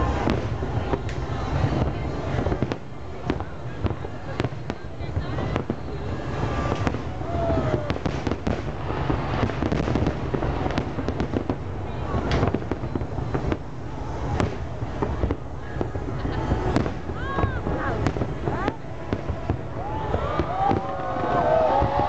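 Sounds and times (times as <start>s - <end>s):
fireworks bangs and crackle: 0.0s - 22.0s.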